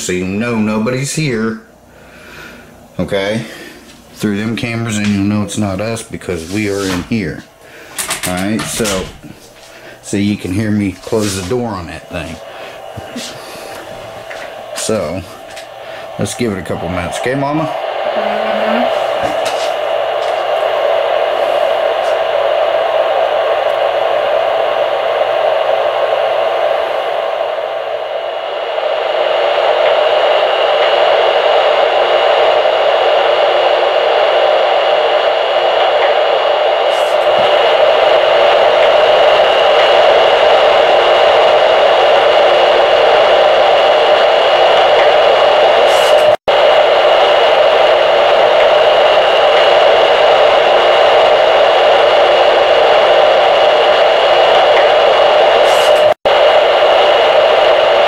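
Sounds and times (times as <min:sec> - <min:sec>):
static hiss from speaker: 0:00.0 - 0:58.0.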